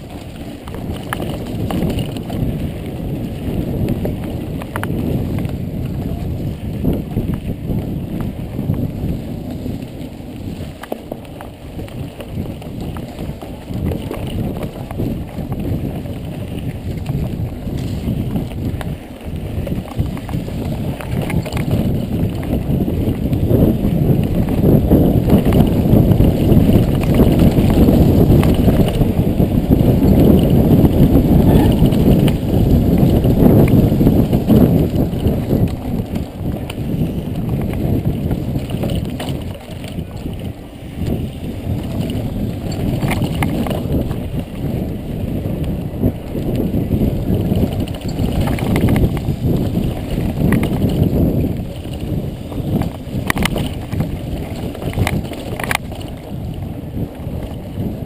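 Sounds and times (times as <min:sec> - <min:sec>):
bike rattling over bumps: 0:00.0 - 0:58.0
bike tyres on dirt trail: 0:00.0 - 0:58.0
wind rushing over microphone: 0:00.0 - 0:58.0.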